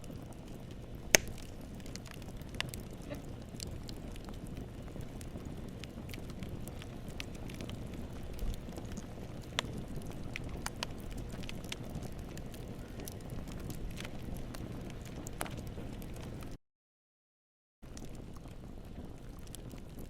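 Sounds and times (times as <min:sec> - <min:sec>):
burning wood crackling and popping: 0:00.0 - 0:16.6, 0:17.8 - 0:20.0
roar of campfire flames: 0:00.0 - 0:16.6, 0:17.8 - 0:20.0.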